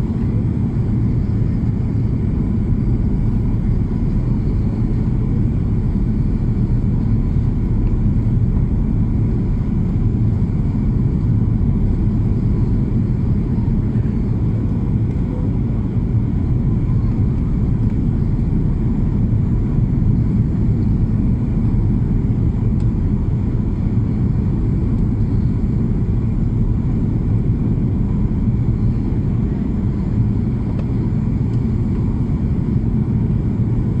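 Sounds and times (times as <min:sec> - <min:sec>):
airplane rumble: 0:00.0 - 0:34.0
faint steady whine: 0:00.0 - 0:34.0.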